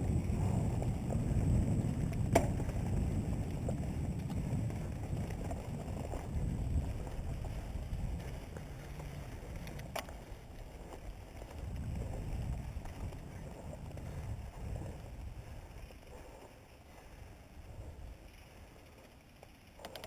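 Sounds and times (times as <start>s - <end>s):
wind buffeting microphone: 0.0s - 16.3s
tyres rumbling on dirt trail: 0.0s - 20.0s.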